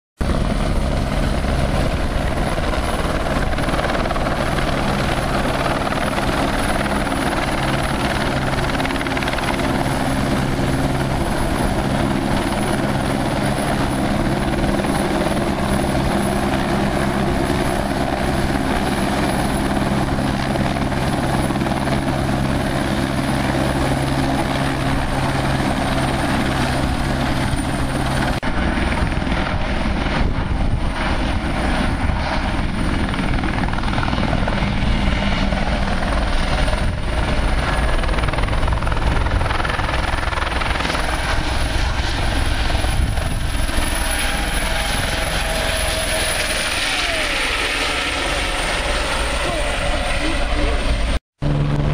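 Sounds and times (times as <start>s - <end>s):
helicopter hovering: 0.2s - 51.9s
rough helicopter rotor rumble: 0.2s - 51.9s.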